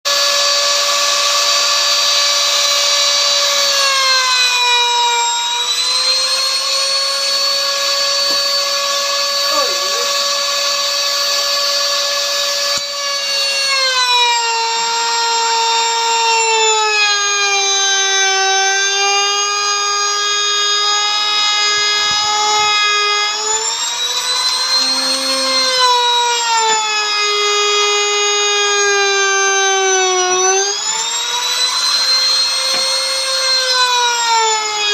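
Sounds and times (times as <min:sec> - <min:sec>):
electric wood router whining: 0:00.1 - 0:34.9.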